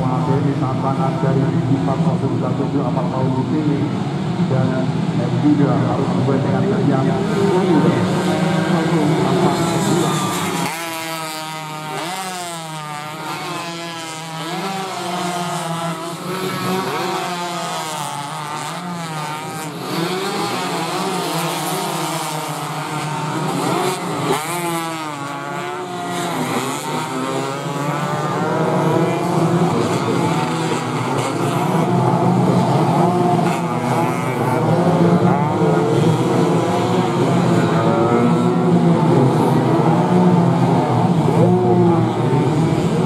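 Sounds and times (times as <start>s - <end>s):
racing motorcycle engines revving: 0.0s - 43.0s.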